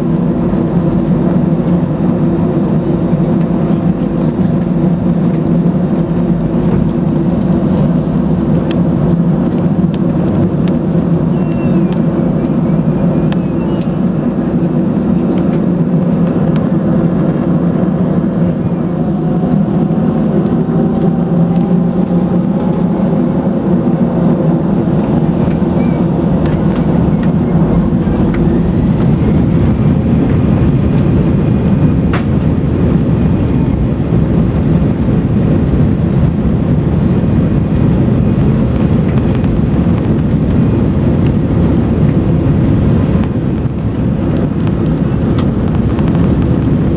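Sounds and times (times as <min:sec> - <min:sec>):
jet cabin engine and airflow noise: 0:00.0 - 0:46.9.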